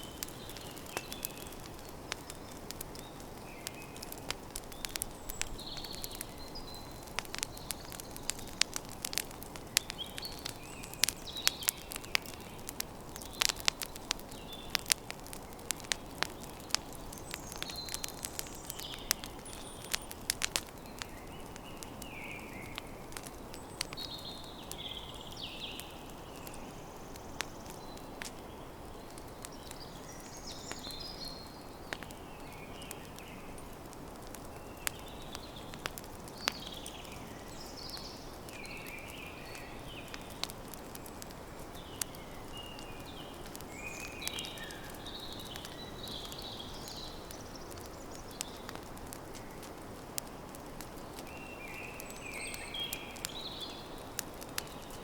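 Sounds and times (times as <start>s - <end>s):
birds chirping: 0.0s - 33.8s, 34.4s - 48.8s
campfire crackling and popping: 0.0s - 55.0s.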